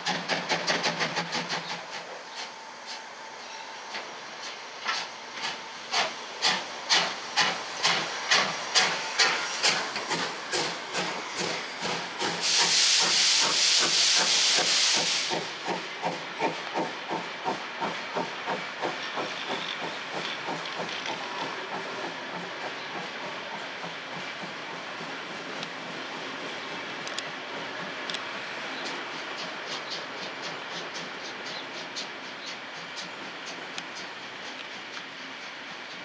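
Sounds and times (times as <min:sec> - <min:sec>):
rush of steam: 0:00.0 - 0:36.0
steam locomotive exhaust beats: 0:00.0 - 0:36.0.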